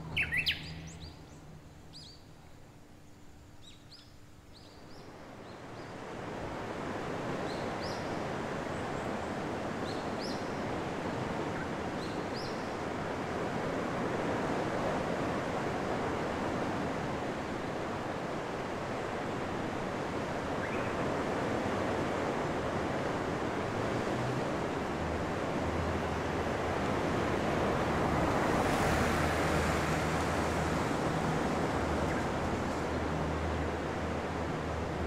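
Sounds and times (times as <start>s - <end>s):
wind: 0.0s - 35.0s
surf washing over rocks: 6.2s - 35.0s.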